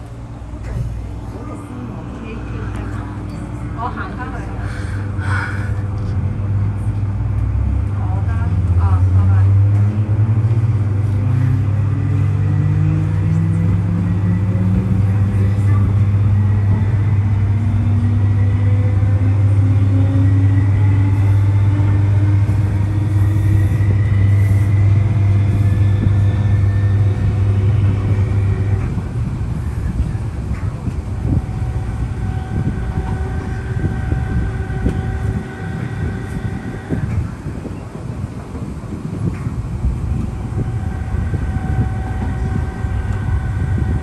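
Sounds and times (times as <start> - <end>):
train motor whine: 0.0 - 44.0
train rumble: 0.0 - 44.0.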